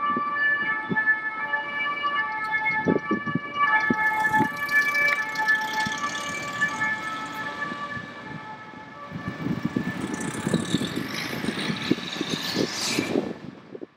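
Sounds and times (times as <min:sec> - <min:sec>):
fire truck siren: 0:00.0 - 0:13.9
road traffic rumble: 0:00.2 - 0:13.9.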